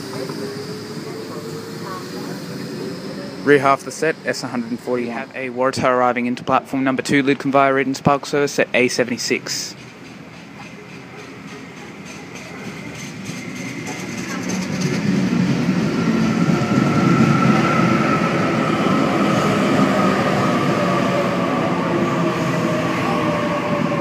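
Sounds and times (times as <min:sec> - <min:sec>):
train wheel rumble: 0:00.0 - 0:07.4, 0:08.9 - 0:24.0.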